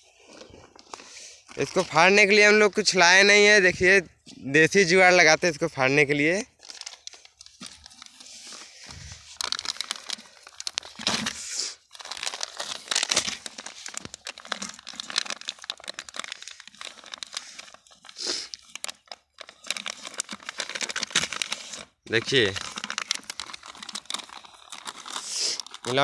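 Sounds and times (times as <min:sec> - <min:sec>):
plastic packet crinkling: 0:04.7 - 0:26.0.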